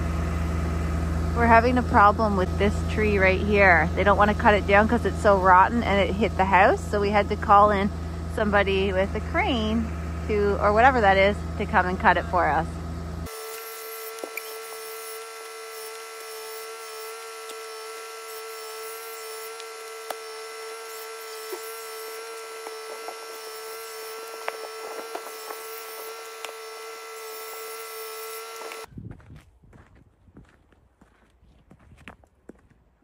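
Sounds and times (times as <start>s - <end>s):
power saw cutting tree trunk: 0.0s - 28.9s.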